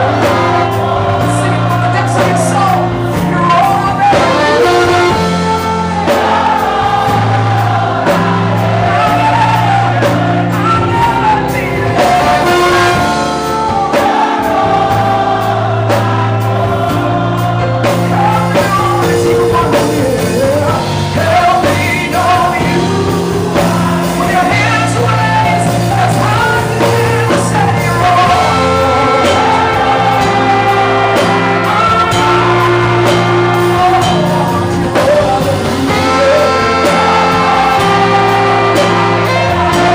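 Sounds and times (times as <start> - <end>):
band playing: 0.0 - 39.9
bass line holding long notes: 0.0 - 39.9
gospel singing voices: 0.0 - 39.9.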